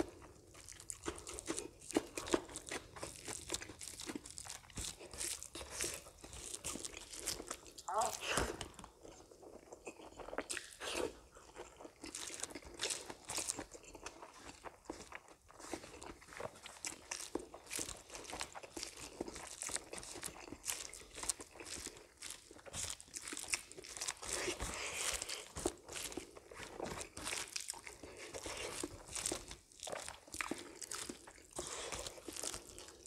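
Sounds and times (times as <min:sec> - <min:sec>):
chewing and crunching: 0:00.0 - 0:33.0.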